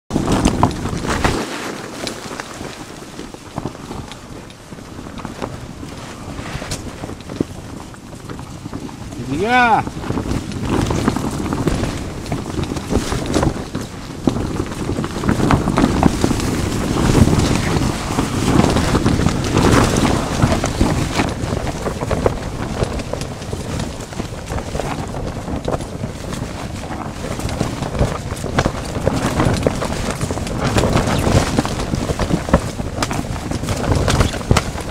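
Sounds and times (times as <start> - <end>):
fabric canopy rustling and flapping: 0.1 - 34.9
wind buffeting microphone: 0.1 - 34.9.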